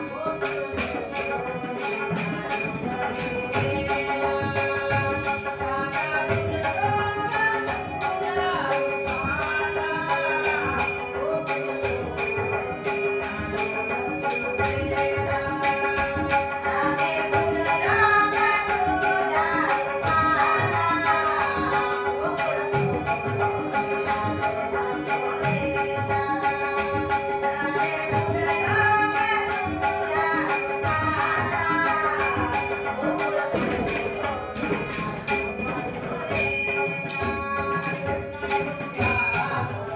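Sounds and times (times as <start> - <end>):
fast jingling percussion: 0.0 - 39.9
harmonium drone: 0.0 - 39.9
tabla: 0.0 - 39.9
woman singing: 0.0 - 39.9.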